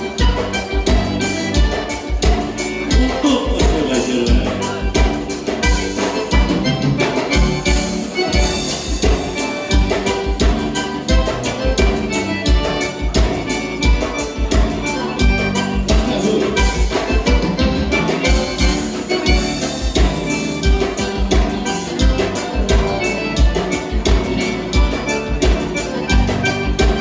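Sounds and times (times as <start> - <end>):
accordion: 0.0 - 27.0
bass: 0.0 - 27.0
drums keeping a steady beat: 0.0 - 27.0.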